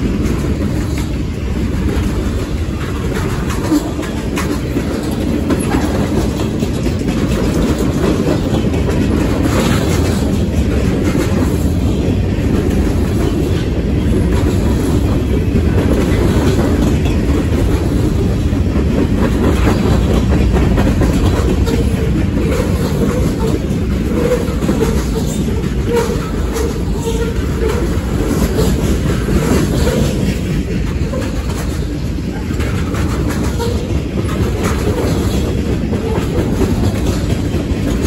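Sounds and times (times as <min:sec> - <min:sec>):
steel wheels rumbling on rail: 0:00.0 - 0:38.0
wheels clicking over rail joints: 0:00.0 - 0:38.0.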